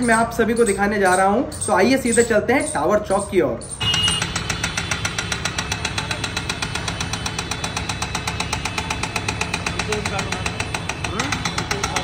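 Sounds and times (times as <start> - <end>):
diesel engine clattering: 0.0 - 12.0.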